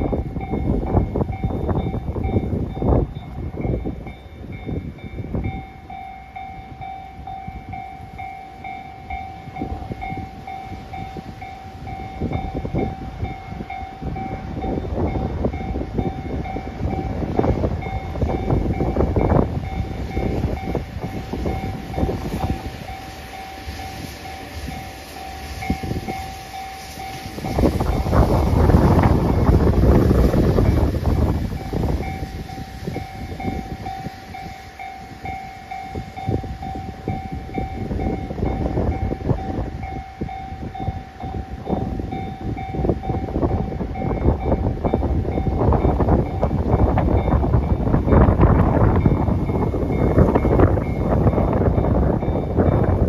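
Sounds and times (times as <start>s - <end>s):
railcar high whine: 0.0s - 53.0s.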